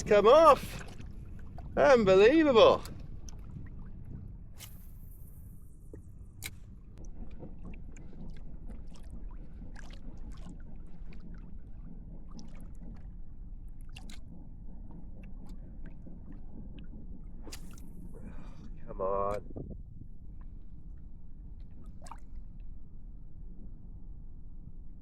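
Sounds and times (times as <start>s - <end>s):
low rumble: 0.0s - 25.0s
water lapping against a hull: 0.0s - 25.0s.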